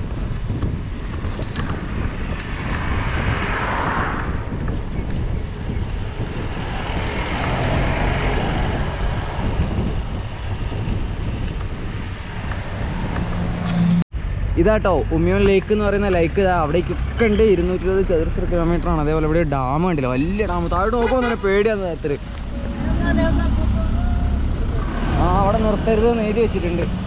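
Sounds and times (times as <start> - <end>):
passing traffic: 0.0 - 27.0
wind rumbling on microphone: 0.0 - 27.0.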